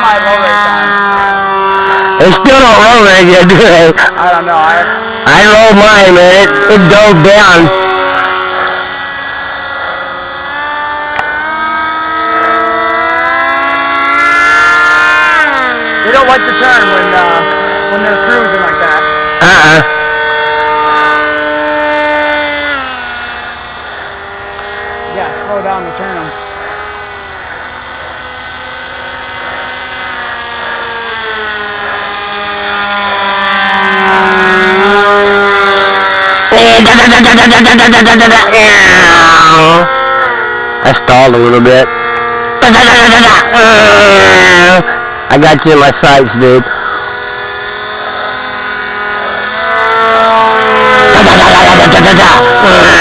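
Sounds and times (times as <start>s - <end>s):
model jet motors whining: 0.0s - 53.0s.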